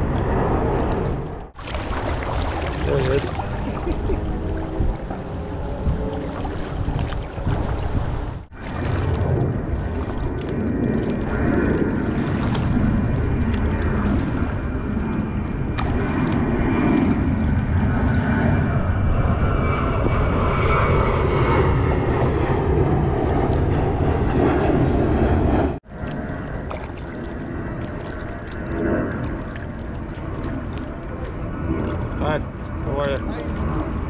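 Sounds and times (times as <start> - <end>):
airplane rumble overhead: 0.0 - 34.0.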